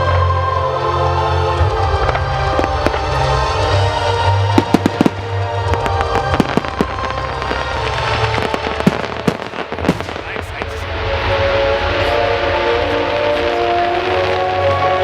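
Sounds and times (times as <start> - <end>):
loud music: 0.0 - 15.0
fireworks bangs and crackles: 1.6 - 15.0.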